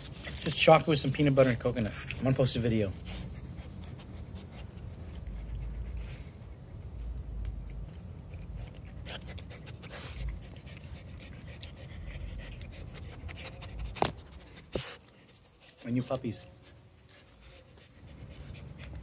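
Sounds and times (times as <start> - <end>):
puppies panting: 0.0 - 19.0.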